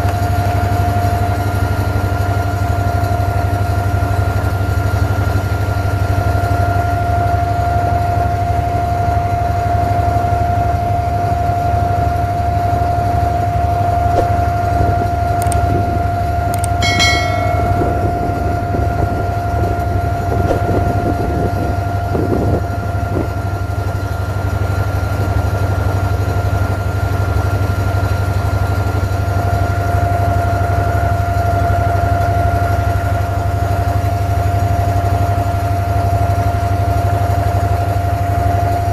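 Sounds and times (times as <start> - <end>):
boat engine droning with whine: 0.0 - 38.9.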